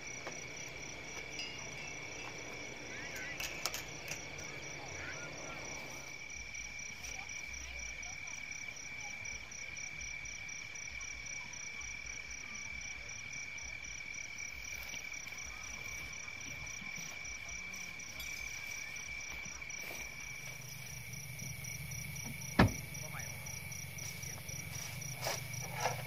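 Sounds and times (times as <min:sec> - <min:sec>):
high steady insect trill: 0:00.0 - 0:26.0
pulsing insect trill: 0:00.0 - 0:26.0.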